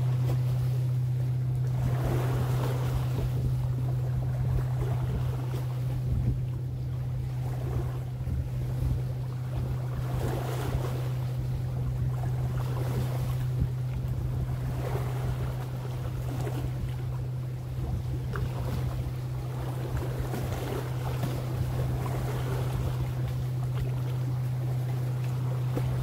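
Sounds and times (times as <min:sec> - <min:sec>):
boat engine drone: 0:00.0 - 0:26.0
waves lapping at shore: 0:00.0 - 0:26.0
wind on water: 0:00.0 - 0:26.0.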